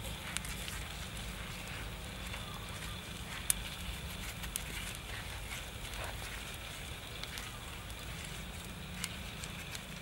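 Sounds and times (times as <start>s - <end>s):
charcoal fire crackling and popping: 0.0s - 10.0s.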